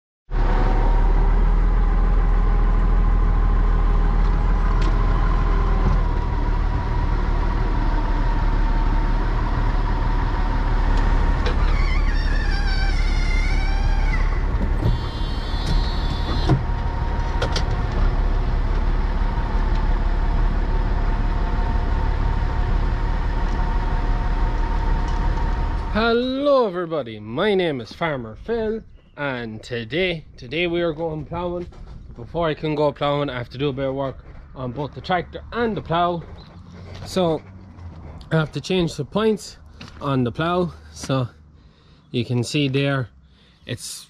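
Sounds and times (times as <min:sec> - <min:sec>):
tractor engine drone: 0:00.3 - 0:44.0
steady whine: 0:05.8 - 0:41.2.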